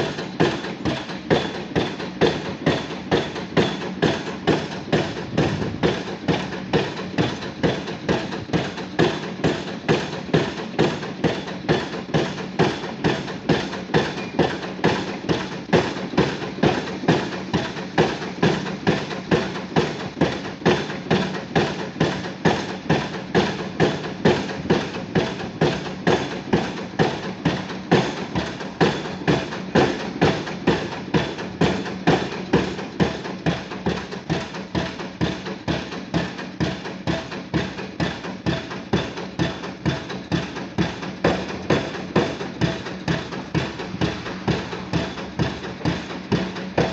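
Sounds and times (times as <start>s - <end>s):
engine running steadily: 0.0s - 46.9s
pile driver hammer striking: 0.0s - 46.9s.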